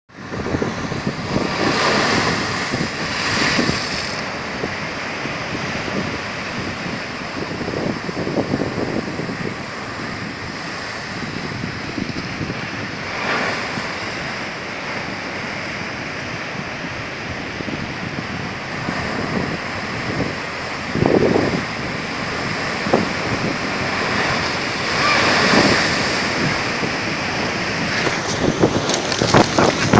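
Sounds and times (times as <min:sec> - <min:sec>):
wind buffeting microphone: 0:00.1 - 0:29.9
surf breaking against wharf: 0:00.3 - 0:16.3, 0:18.5 - 0:29.9.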